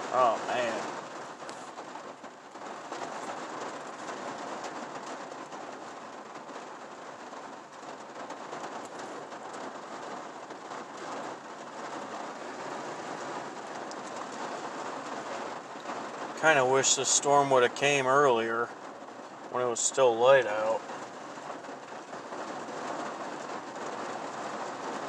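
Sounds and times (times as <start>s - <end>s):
rain on a vehicle roof: 0.0s - 25.0s
raindrops ticking on metal and glass: 0.0s - 25.0s.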